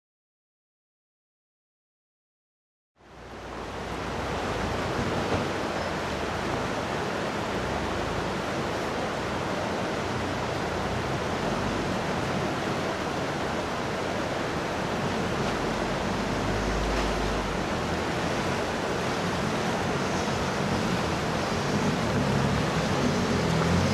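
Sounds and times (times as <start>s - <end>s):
creek water rushing over rocks: 3.1s - 23.9s.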